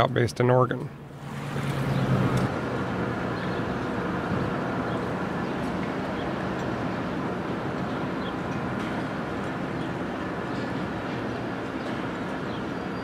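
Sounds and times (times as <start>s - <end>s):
low engine hum: 0.2s - 13.0s.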